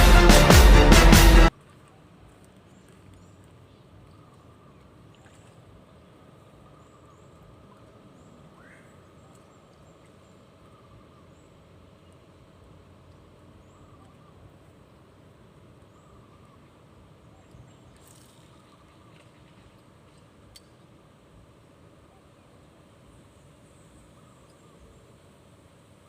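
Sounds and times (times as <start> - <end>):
faint outdoor ambience: 0.0 - 26.0.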